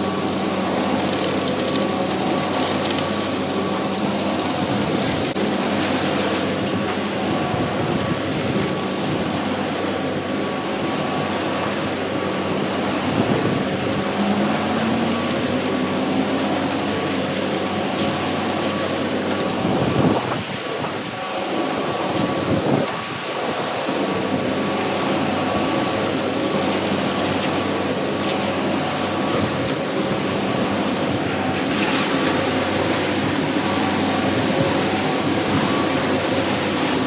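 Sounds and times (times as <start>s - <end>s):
broad rushing noise: 0.0s - 37.0s
diesel engine running: 0.0s - 37.0s.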